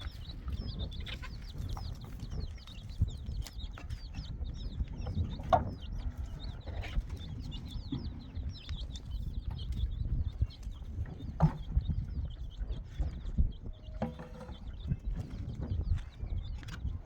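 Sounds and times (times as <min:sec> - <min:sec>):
chickens clucking and cheeping: 0:00.0 - 0:17.0.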